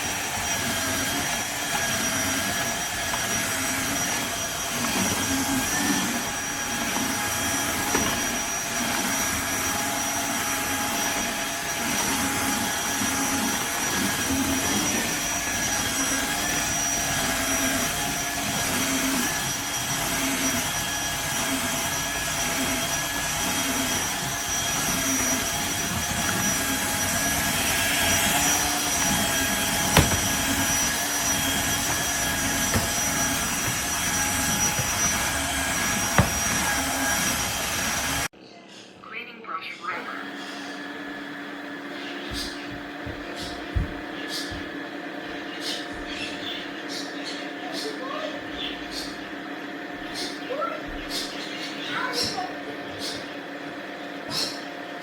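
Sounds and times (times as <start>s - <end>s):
floor cleaner motor whining: 0.0s - 38.4s, 39.9s - 55.0s.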